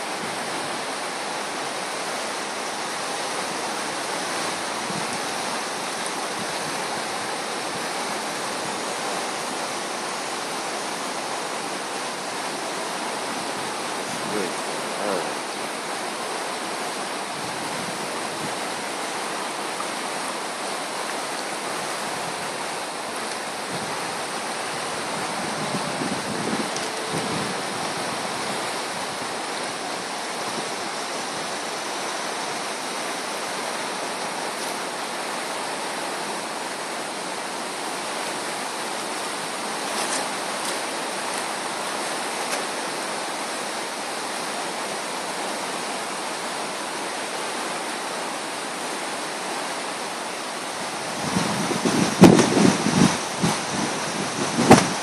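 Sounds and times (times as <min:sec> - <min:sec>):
flood water rushing: 0:00.0 - 0:55.0.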